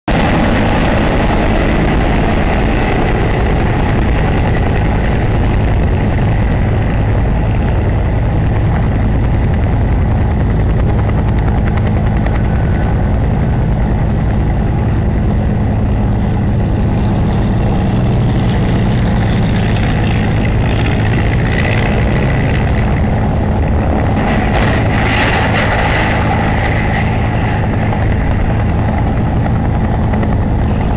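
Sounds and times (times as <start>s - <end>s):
loud mechanical drone: 0.0s - 30.9s.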